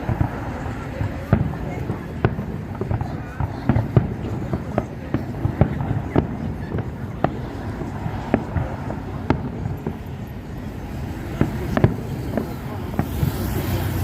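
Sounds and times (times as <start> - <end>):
distant fireworks bursting: 0.0 - 14.0
outdoor background noise: 0.0 - 14.0.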